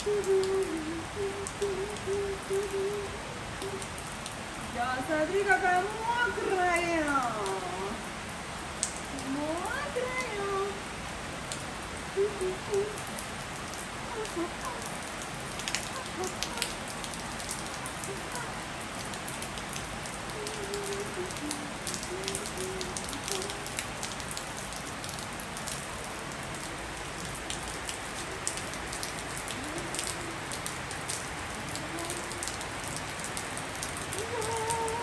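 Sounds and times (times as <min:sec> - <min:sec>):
rain falling on a tiled roof: 0:00.0 - 0:35.0.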